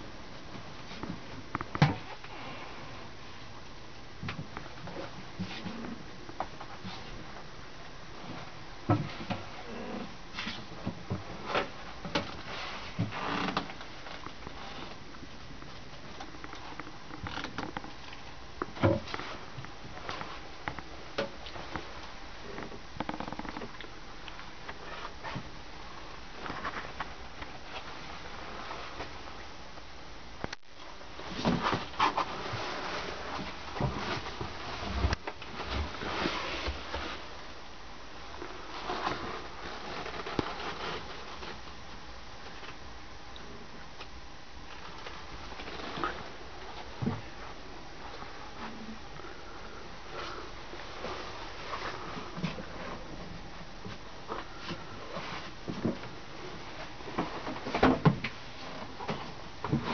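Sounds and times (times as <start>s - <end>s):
rustling: 8.1s - 29.6s, 30.5s - 42.8s, 44.0s - 59.9s.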